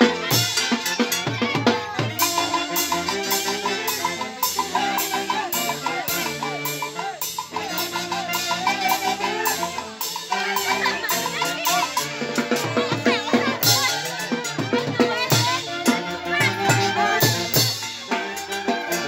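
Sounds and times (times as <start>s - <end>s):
drum kit beat: 0.0s - 19.0s
wind instruments playing melody: 0.0s - 19.0s.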